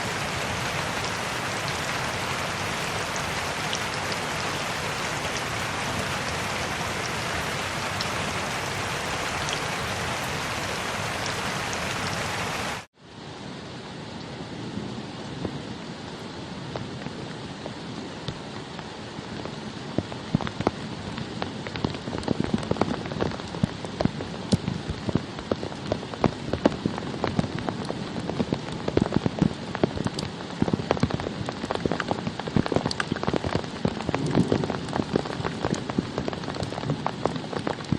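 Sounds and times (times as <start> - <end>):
rain falling: 0.0 - 12.9, 13.7 - 37.9
raindrops striking close by: 0.0 - 12.9, 14.2 - 37.9.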